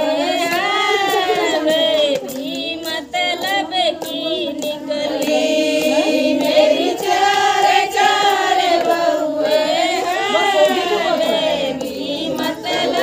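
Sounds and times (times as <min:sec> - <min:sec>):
women singing devotional song: 0:00.0 - 0:13.0.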